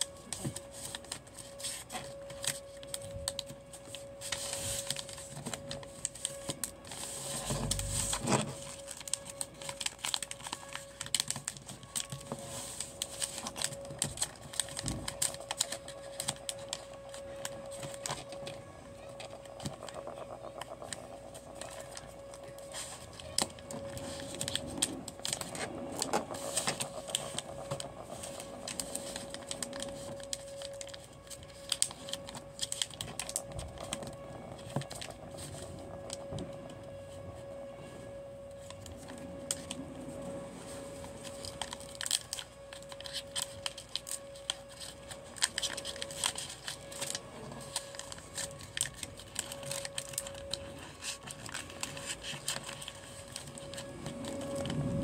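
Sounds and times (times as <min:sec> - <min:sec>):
paper rustling and crinkling: 0:00.0 - 0:55.0.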